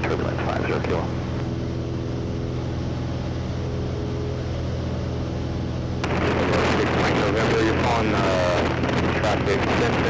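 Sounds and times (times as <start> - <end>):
airplane engine droning: 0.0 - 10.0.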